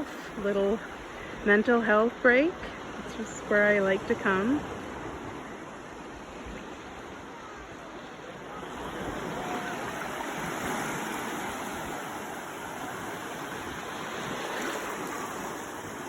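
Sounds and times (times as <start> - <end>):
ocean surf on a beach: 0.0 - 16.0.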